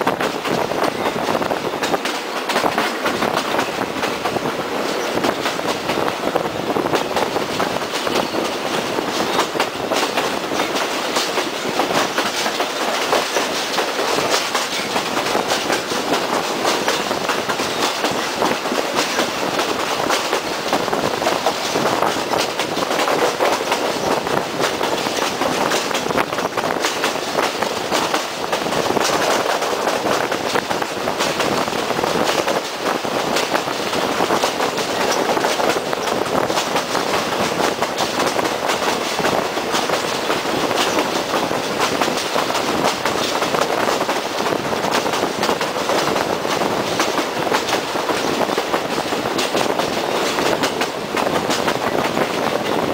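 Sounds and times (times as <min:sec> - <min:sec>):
train carriage rumble and rattle: 0:00.0 - 0:52.9
wheels clicking over rail joints: 0:00.0 - 0:52.9.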